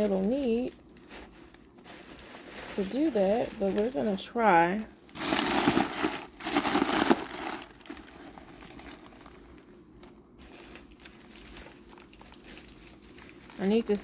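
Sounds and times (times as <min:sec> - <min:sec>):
stuffing crinkling in a tote bag: 0:00.0 - 0:14.0.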